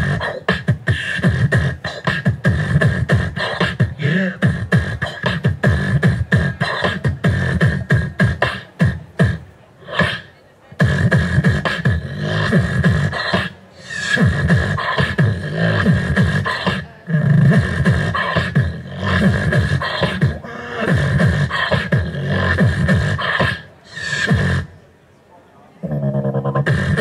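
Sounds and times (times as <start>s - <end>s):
beatboxing into a microphone: 0.0s - 24.8s, 25.8s - 27.0s.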